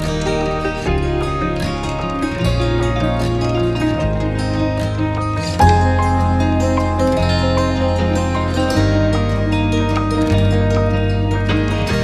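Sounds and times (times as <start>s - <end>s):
low bass notes: 0.0s - 12.0s
plucked string notes: 0.0s - 12.0s.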